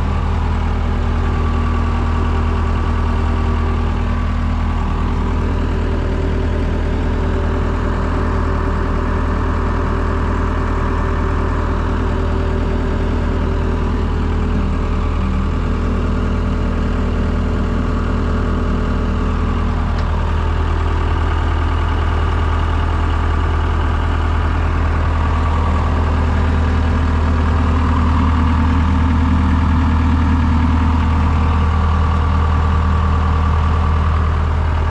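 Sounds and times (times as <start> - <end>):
diesel engine running steadily: 0.0 - 34.9.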